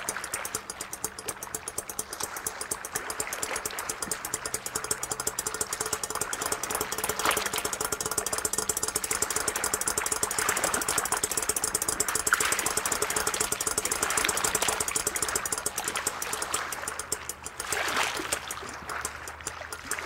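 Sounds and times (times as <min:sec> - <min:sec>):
bridge mechanism clattering: 0:00.0 - 0:20.0.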